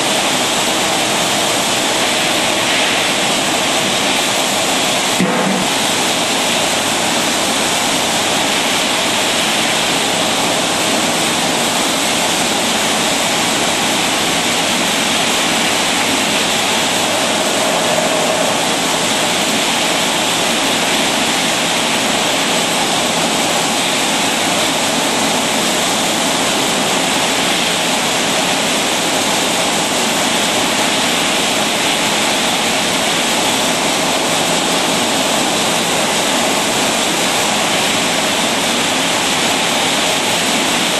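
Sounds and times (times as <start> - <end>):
filling machine rushing noise: 0.0 - 40.9.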